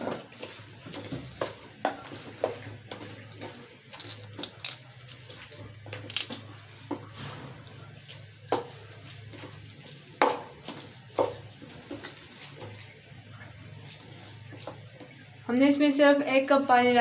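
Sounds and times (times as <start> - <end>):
spoon stirring batter in steel bowl: 0.0 - 15.4.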